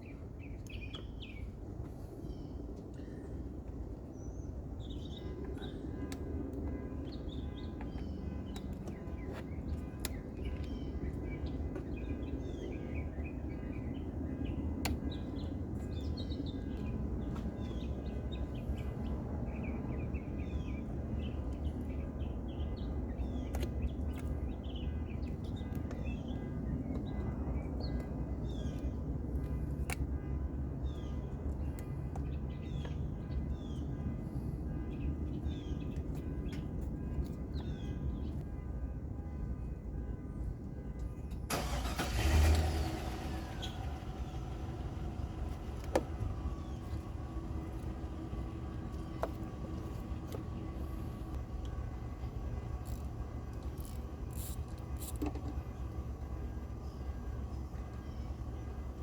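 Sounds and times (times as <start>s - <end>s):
small birds chirping: 0.0s - 38.5s, 43.6s - 59.0s
steady low rumble: 0.0s - 39.2s, 42.8s - 59.0s.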